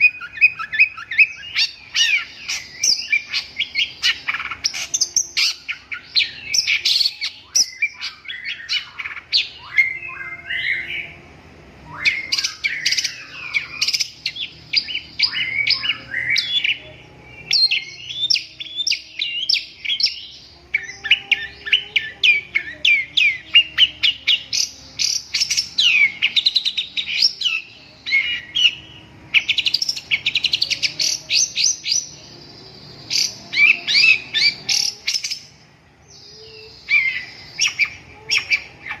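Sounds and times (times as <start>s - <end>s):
bird singing: 0.0s - 39.0s.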